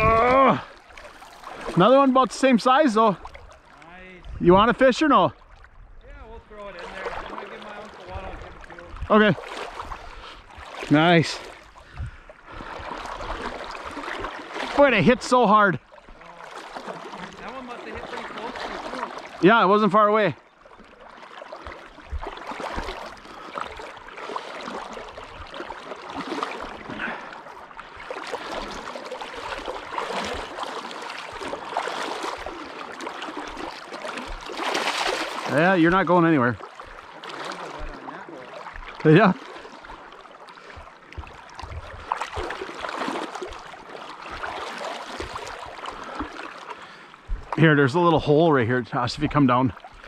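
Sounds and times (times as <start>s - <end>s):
water splashing over rocks: 0.0s - 5.8s, 6.4s - 50.0s.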